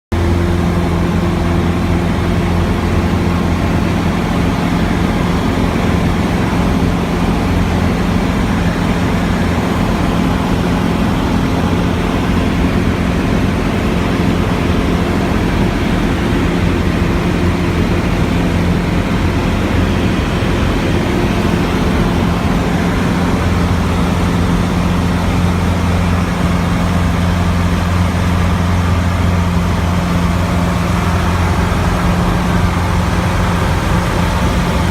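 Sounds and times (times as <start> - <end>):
light aircraft engine droning: 0.1 - 34.9.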